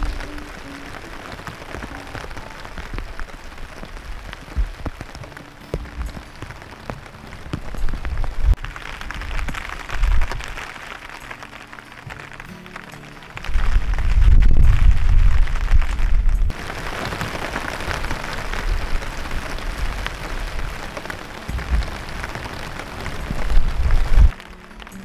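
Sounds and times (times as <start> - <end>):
heavy raindrops striking: 0.0 - 25.0
steady rain falling: 0.0 - 25.0.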